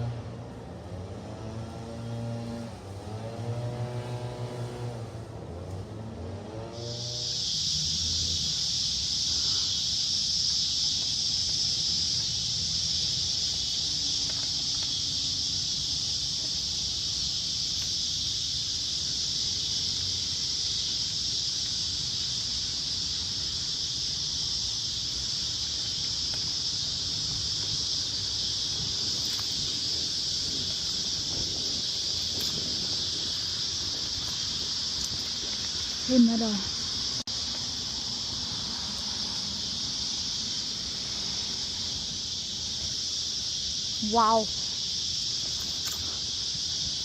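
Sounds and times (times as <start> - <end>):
insect chorus droning: 0.0 - 47.0.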